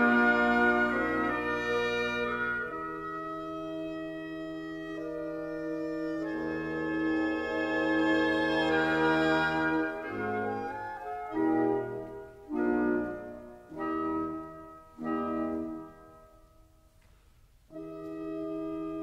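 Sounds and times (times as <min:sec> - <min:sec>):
instrumental music with held chords: 0:00.0 - 0:19.0.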